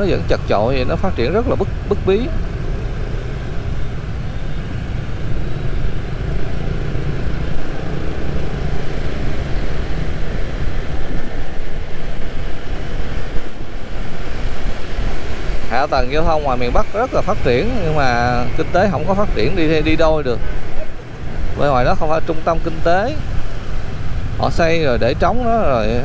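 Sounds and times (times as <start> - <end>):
low traffic rumble: 0.0 - 26.0
vehicles passing: 0.0 - 26.0.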